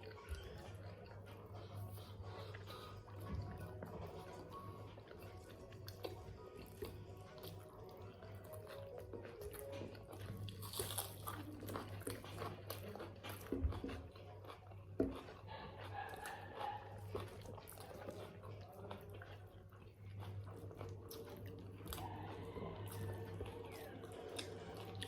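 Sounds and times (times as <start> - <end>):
chewing and biting: 0.0 - 25.0.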